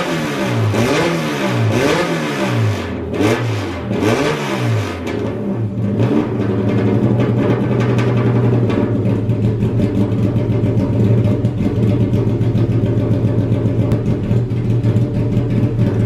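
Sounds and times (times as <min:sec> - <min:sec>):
car engine running loud: 0:00.0 - 0:16.0.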